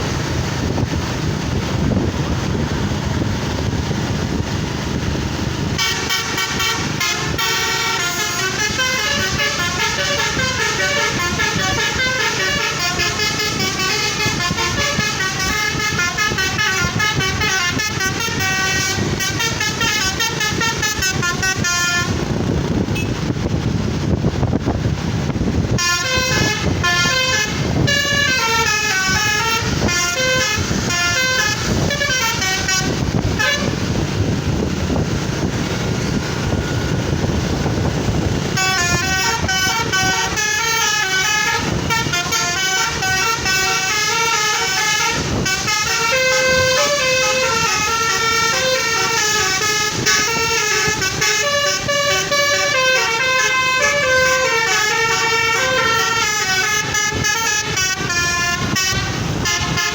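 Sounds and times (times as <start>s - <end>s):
loud steady background noise: 0.0s - 59.9s
musical vehicle horn tune: 5.7s - 23.5s, 25.6s - 59.9s.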